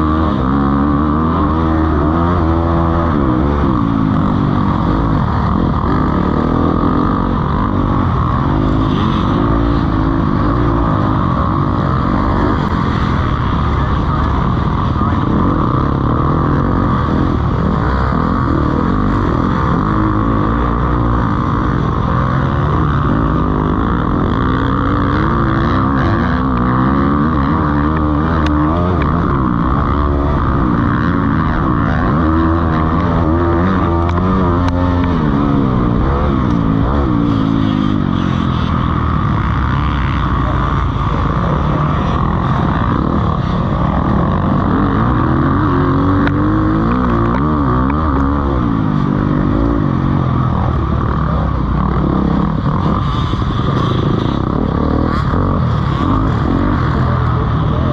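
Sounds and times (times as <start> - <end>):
motocross bikes racing: 0.0 - 57.9.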